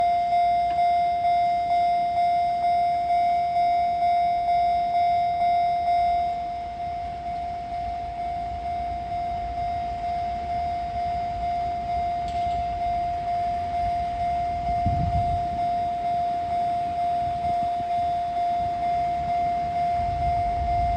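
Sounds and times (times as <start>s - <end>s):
level-crossing warning bell: 0.0s - 20.9s.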